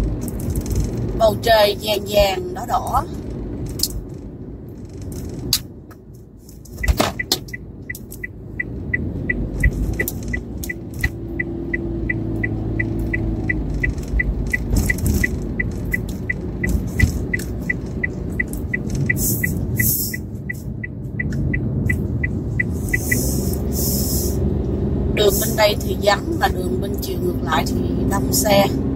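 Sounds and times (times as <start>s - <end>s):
engine and tyre rumble: 0.0s - 28.9s
car indicator ticking: 5.1s - 28.8s.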